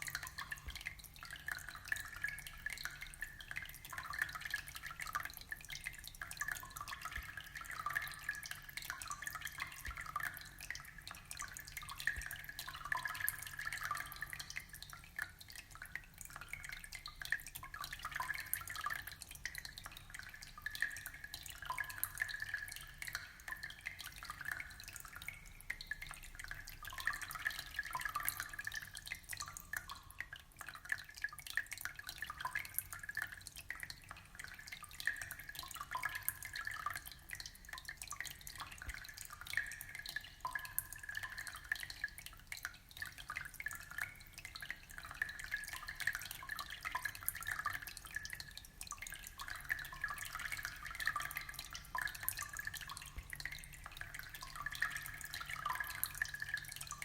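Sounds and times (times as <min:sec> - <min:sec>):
aquarium water trickling: 0:00.0 - 0:57.0
small drips and splashes: 0:00.0 - 0:57.0.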